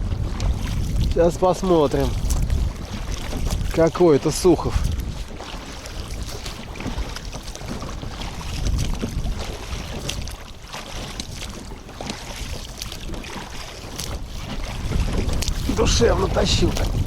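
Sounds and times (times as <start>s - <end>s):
water lapping against boat: 0.0s - 17.0s
wind buffeting microphone: 0.0s - 17.0s.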